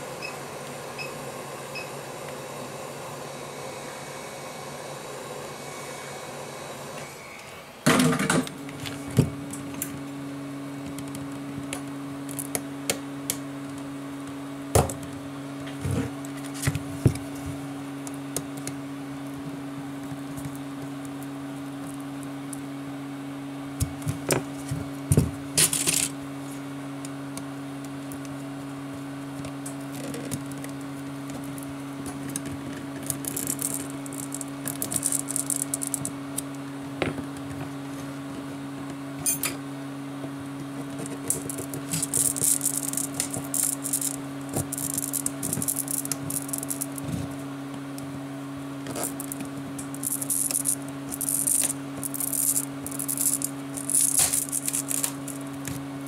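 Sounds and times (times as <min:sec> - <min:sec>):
steady low hum: 0:07.8 - 0:56.0.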